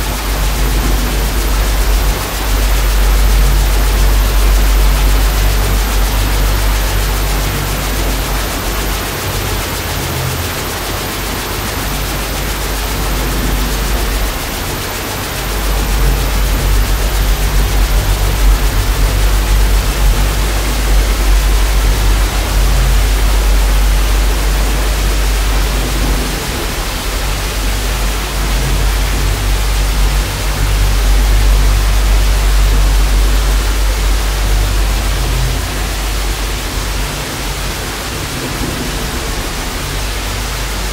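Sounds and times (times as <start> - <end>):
deep low drone: 0.0 - 40.9.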